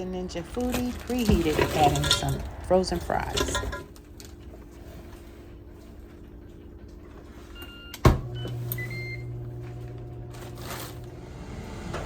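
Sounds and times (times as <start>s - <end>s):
cooker faint hum: 0.0s - 12.0s
fan low hum: 0.0s - 12.0s.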